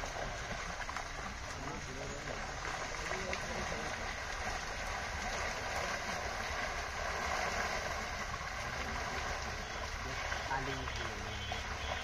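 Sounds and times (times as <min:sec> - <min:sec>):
fish thrashing in water: 0:00.0 - 0:12.0.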